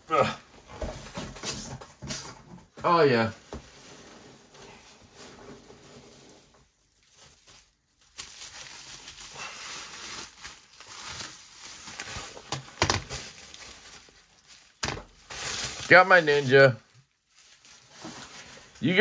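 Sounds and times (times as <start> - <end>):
bubble wrap crinkling: 3.2 - 19.0.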